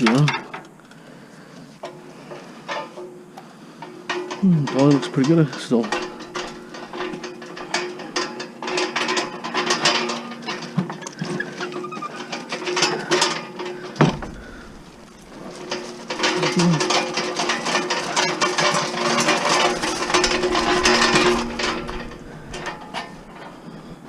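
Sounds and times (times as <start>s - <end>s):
steady low hum: 0.0s - 11.6s, 12.4s - 24.0s
scrap clicking and rattling: 0.0s - 24.0s.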